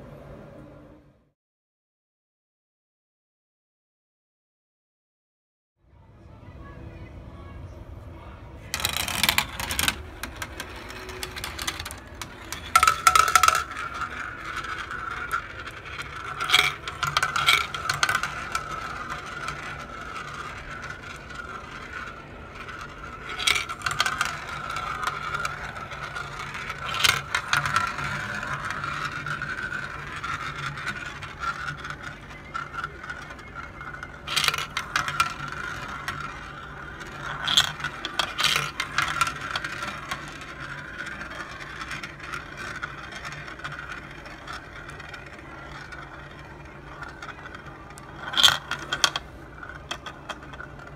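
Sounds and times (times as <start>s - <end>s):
marbles rolling on plastic track: 8.6s - 50.9s
marbles clacking: 8.7s - 50.9s.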